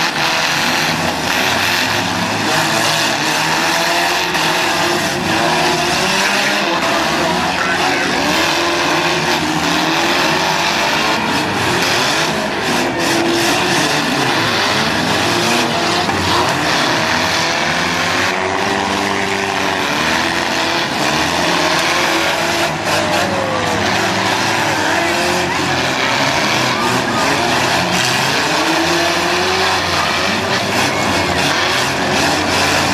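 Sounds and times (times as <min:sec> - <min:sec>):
car engines revving: 0:00.0 - 0:32.9
cars hitting: 0:00.0 - 0:32.9.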